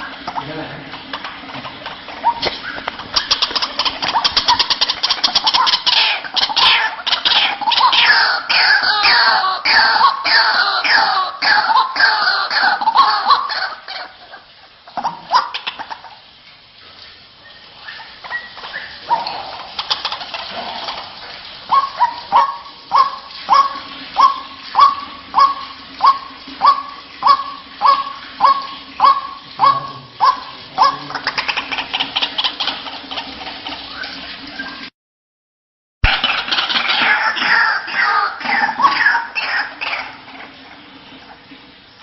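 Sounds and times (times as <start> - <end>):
waterhen calls: 0.0 - 16.4, 17.0 - 34.9, 36.0 - 41.5.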